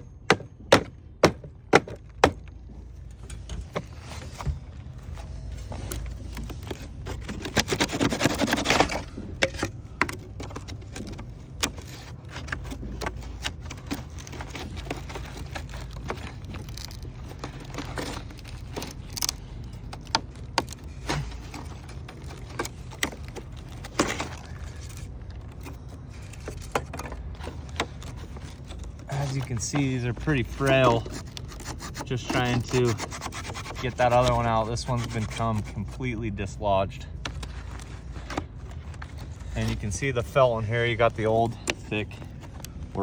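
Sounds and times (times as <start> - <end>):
low background rumble: 0.0 - 43.0
wood shake being scraped: 0.3 - 36.6.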